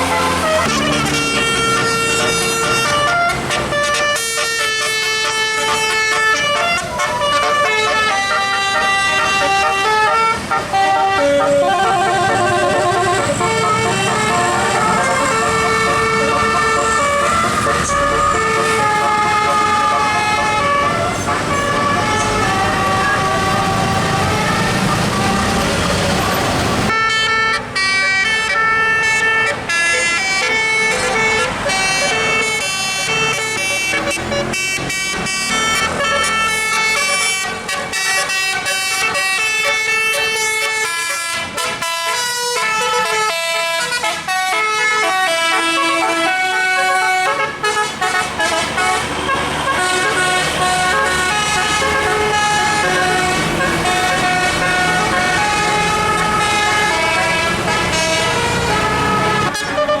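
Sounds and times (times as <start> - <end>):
bus air horn playing a tune: 0.0 - 60.0.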